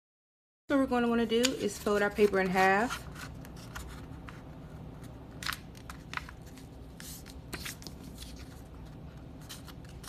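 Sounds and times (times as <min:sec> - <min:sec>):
paper rustling and crinkling: 0:01.4 - 0:10.0.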